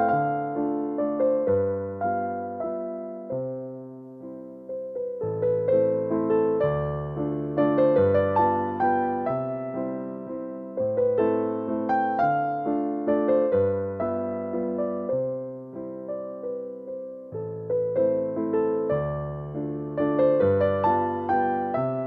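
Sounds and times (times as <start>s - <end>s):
gentle keyboard melody: 0.0s - 22.0s.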